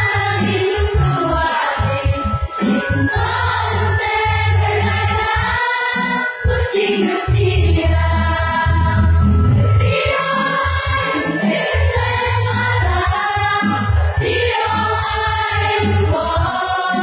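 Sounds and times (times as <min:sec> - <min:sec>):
large group singing together: 0:00.0 - 0:17.0.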